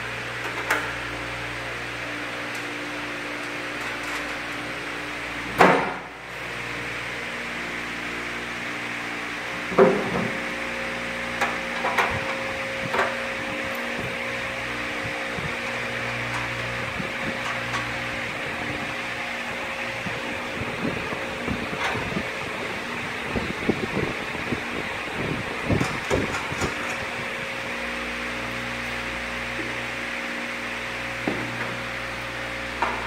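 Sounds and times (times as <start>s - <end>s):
fan-like hum: 0.0s - 33.0s.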